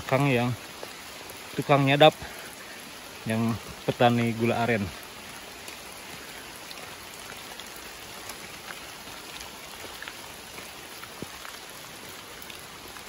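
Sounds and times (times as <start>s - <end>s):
raindrops ticking: 0.0s - 13.0s
steady rain hiss: 0.0s - 13.0s.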